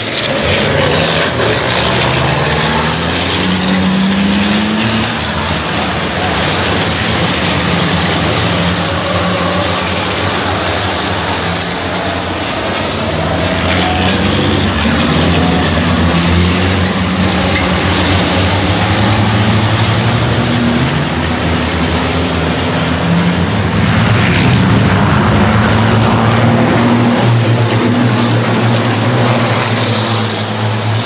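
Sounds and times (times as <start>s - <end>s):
racing truck diesel engines: 0.0s - 31.0s.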